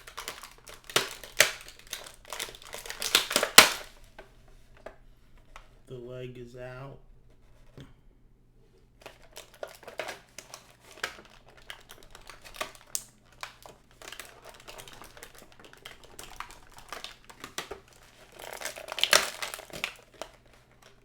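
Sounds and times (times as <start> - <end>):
packaging crinkling: 0.0 - 5.8, 9.0 - 21.0.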